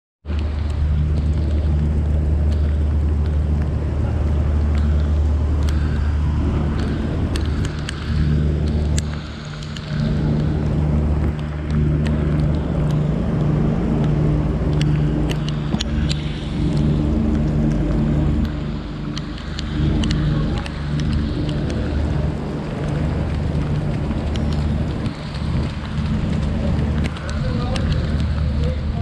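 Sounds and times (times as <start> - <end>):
heavy rain falling: 0.3 - 29.0
low mechanical hum: 0.3 - 29.0.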